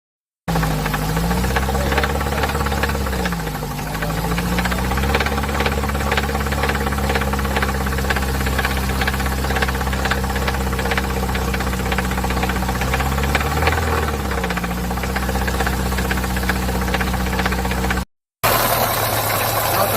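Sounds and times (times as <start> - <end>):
car engine idling: 0.5 - 19.9
loud knocking inside engine: 0.5 - 19.9.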